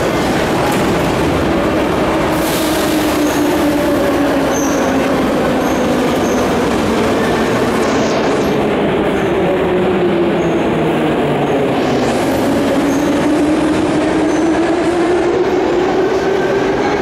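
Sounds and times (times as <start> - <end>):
metro train rumble with motor whine: 0.0 - 17.0.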